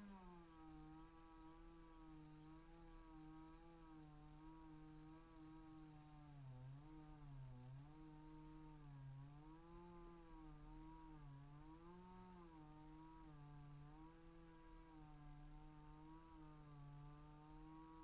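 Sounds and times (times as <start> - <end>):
chainsaw cutting wood: 2.7 - 17.9.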